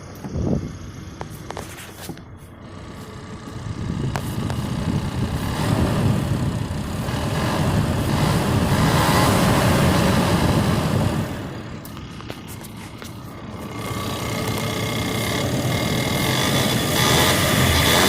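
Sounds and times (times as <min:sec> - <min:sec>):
engine running with buzzing rattle: 0:00.0 - 0:18.0.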